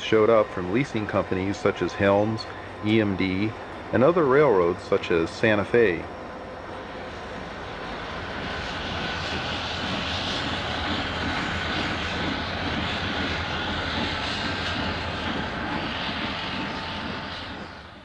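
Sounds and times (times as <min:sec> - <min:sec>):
freight locomotives rolling past: 0:00.0 - 0:18.0.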